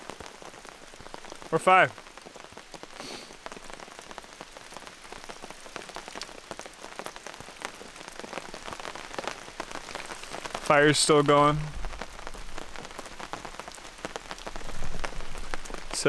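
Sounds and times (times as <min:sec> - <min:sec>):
rain hissing: 0:00.0 - 0:16.0
raindrops ticking: 0:00.0 - 0:16.0.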